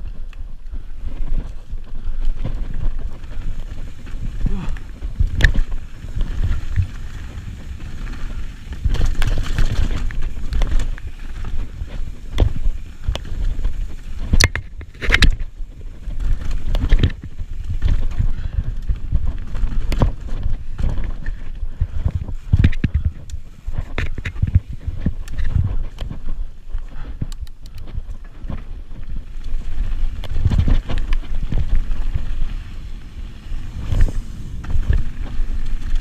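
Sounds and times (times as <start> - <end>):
bike rattling: 0.0 - 36.0
wind rushing over microphone: 0.0 - 36.0
tyres rumbling over dirt: 0.9 - 27.3, 27.9 - 36.0
bike knocking on rough ground: 1.1 - 32.7.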